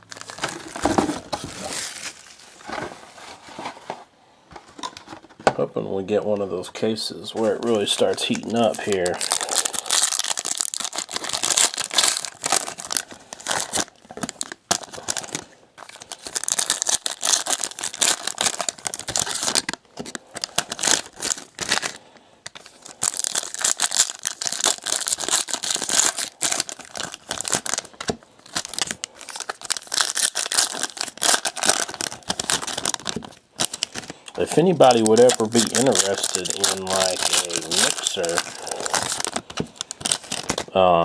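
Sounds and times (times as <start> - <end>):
foil wrappers torn and crinkled: 0.0 - 2.7, 7.5 - 40.7.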